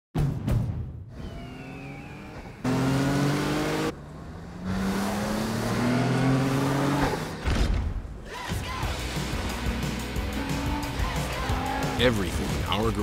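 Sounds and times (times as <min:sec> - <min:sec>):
truck engine revving: 0:01.1 - 0:07.6, 0:08.2 - 0:13.0.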